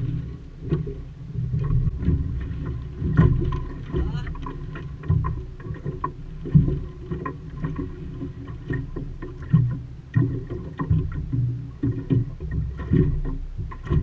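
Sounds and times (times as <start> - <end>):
wash of water: 0.0 - 14.0
water slapping wooden hull: 0.0 - 14.0.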